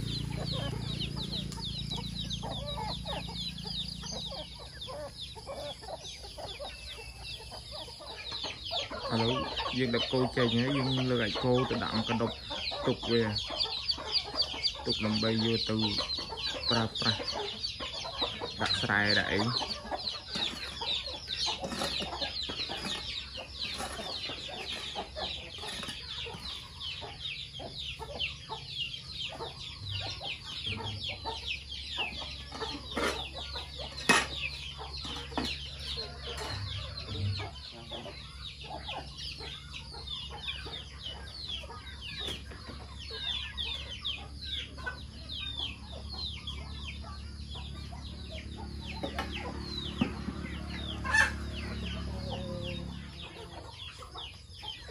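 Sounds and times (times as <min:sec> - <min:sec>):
chickens calling: 0:00.0 - 0:54.9.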